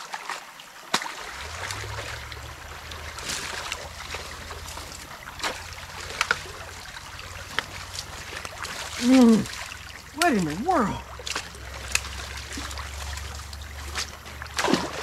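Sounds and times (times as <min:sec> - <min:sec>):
creek water moving: 0:00.0 - 0:15.0
steady low rumble: 0:01.2 - 0:15.0.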